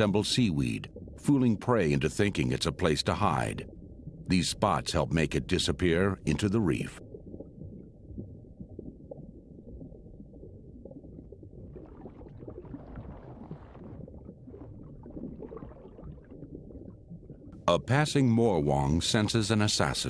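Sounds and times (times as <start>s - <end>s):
low underwater rumble: 0.0s - 17.7s.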